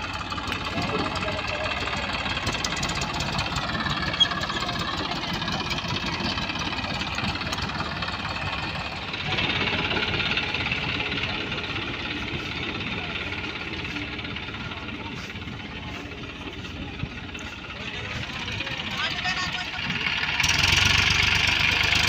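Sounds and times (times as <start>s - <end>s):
tractor diesel engine knocking: 0.0s - 22.0s.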